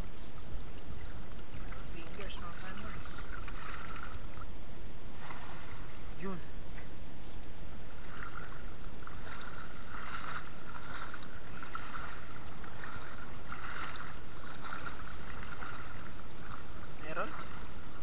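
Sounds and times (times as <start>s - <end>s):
water sloshing around wading legs: 0.0s - 18.0s.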